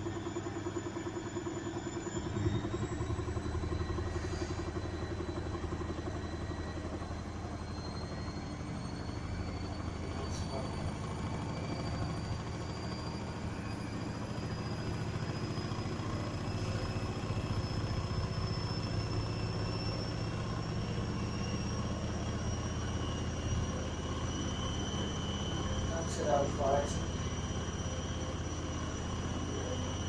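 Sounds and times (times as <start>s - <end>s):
motor whine rising in pitch: 0.0s - 30.0s
washing machine spinning: 0.0s - 30.0s.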